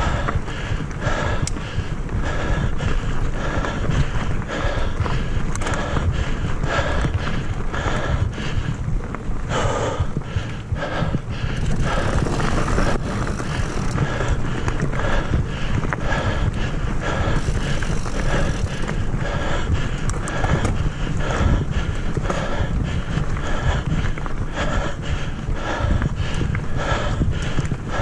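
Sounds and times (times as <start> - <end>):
bike tyre and frame rattle: 0.0 - 28.0
wind buffeting microphone: 0.0 - 28.0.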